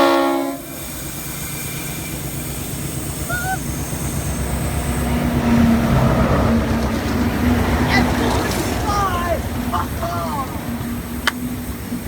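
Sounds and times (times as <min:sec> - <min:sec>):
locomotive engine rumble: 0:00.0 - 0:12.0
steady engine drone: 0:00.1 - 0:12.0.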